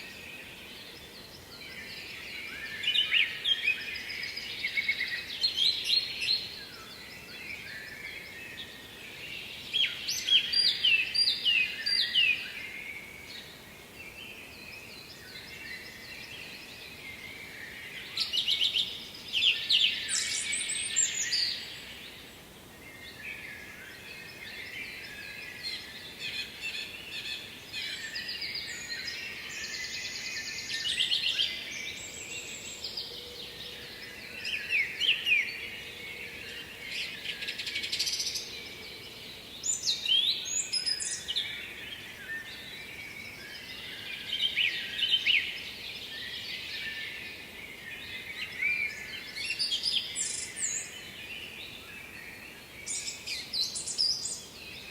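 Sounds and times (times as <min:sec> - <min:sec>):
faint steady hiss: 0:00.0 - 0:54.9
songbirds singing: 0:00.0 - 0:54.9.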